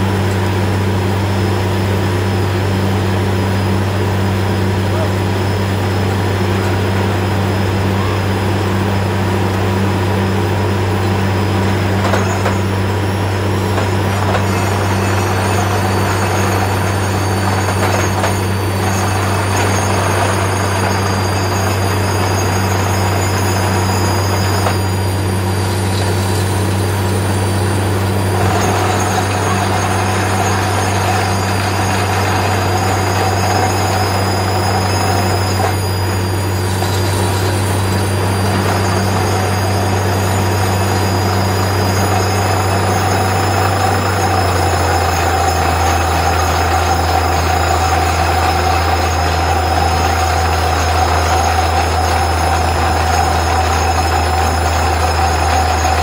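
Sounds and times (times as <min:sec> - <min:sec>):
drilling rig humming: 0:00.0 - 0:56.0
high machine whine: 0:00.0 - 0:56.0.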